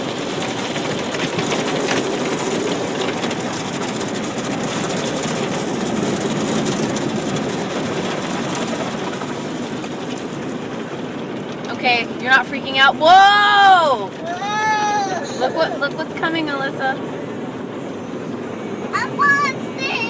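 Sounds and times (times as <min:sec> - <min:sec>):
car wash rushing and rumbling: 0:00.0 - 0:20.0.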